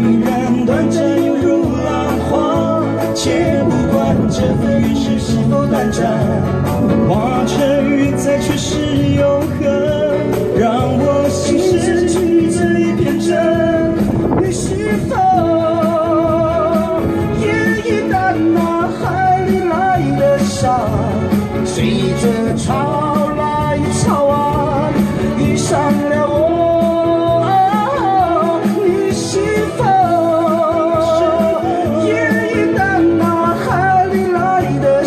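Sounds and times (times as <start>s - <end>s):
instrumental accompaniment: 0.0s - 35.0s
person singing with vibrato: 0.0s - 35.0s.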